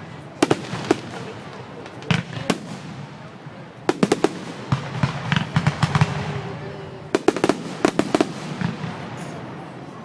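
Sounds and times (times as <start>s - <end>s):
fireworks cracking and popping: 0.4s - 9.7s.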